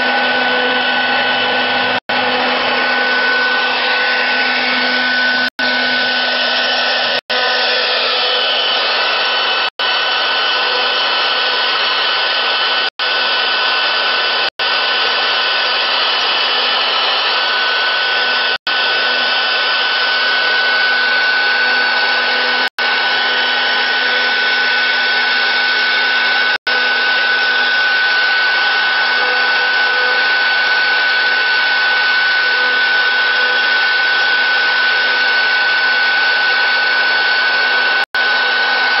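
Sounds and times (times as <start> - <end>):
router spindle milling wood: 0.0 - 39.0.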